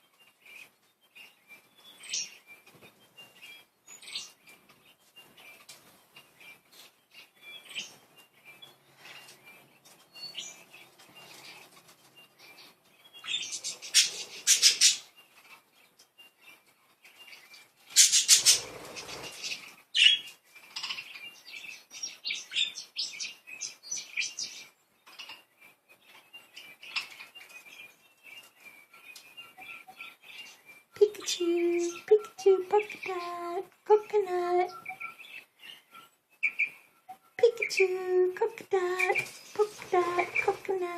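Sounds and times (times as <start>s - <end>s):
budgies chirping and chattering: 0.3s - 37.9s, 38.6s - 40.9s.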